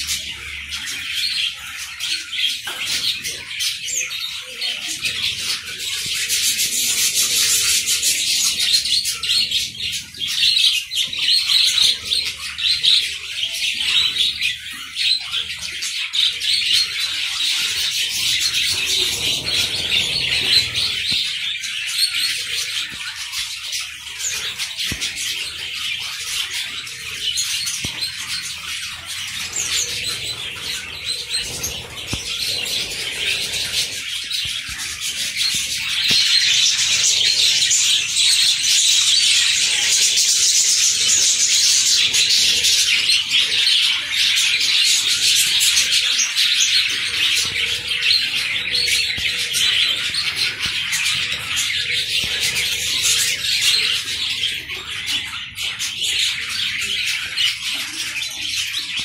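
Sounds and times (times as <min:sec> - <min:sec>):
budgerigars chattering: 0:05.0 - 0:59.0.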